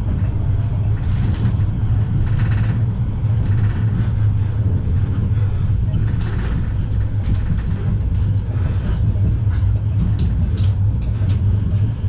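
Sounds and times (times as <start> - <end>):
tram running gear rumble and hum: 0.0 - 12.0.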